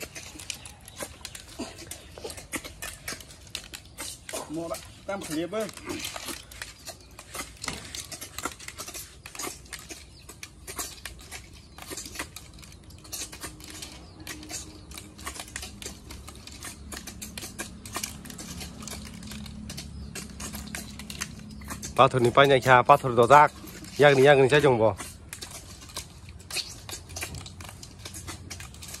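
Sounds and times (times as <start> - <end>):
snail shells clattering on plates: 0.0 - 29.0.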